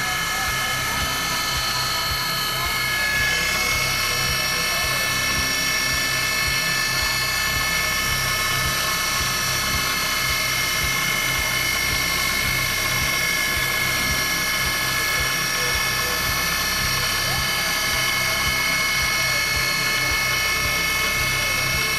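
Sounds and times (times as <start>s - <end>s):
low pulsing hum: 0.0s - 21.9s
milling machine spindle whining: 0.0s - 21.9s.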